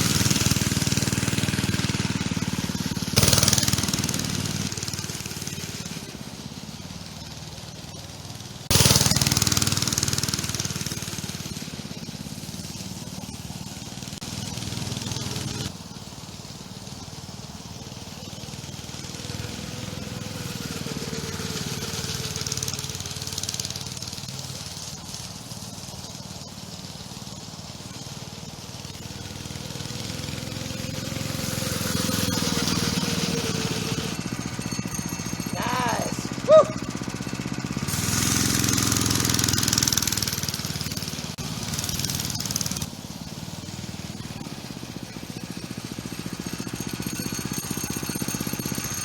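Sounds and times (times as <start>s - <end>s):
minibike engine running: 0.0s - 49.0s.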